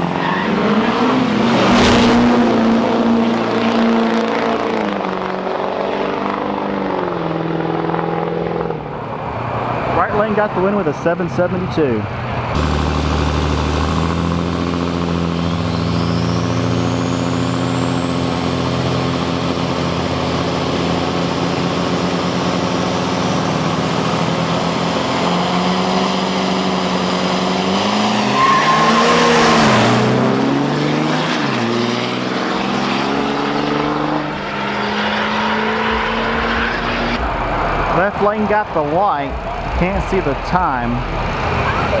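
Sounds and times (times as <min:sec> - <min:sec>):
diesel trucks running: 0:00.0 - 0:42.0
truck passing close: 0:00.0 - 0:42.0.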